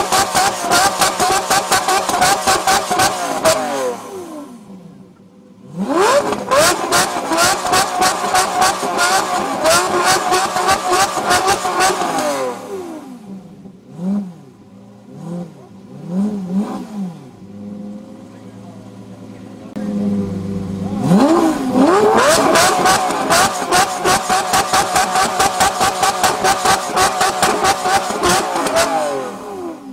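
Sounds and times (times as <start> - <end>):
sports car engine revving: 0.0 - 29.9.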